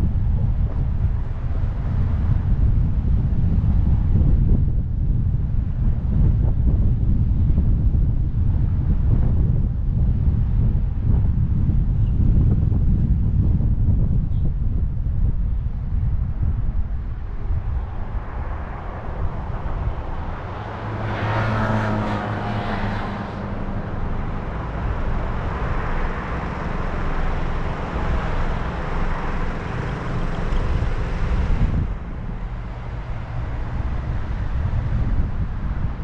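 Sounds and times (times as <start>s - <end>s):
road noise: 0.0s - 36.0s
vehicle passing with low engine hum: 0.0s - 36.0s
wind buffeting microphone: 0.0s - 36.0s.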